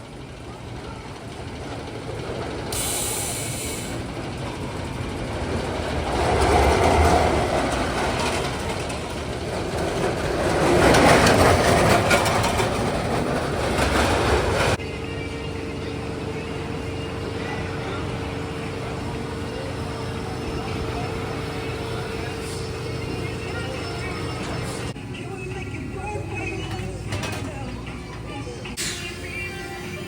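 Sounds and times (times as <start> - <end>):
roller coaster rattling on track: 0.0 - 30.0.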